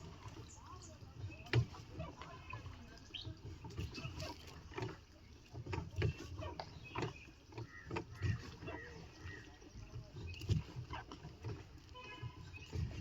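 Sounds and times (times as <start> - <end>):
oars knocking on boat: 0.0 - 13.0.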